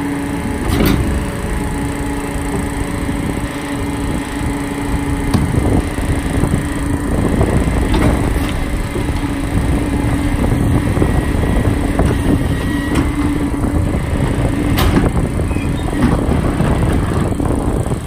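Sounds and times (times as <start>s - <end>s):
garbage truck hydraulic tone: 0.0s - 18.0s
cart and tipper knocks and rattles: 0.5s - 18.0s.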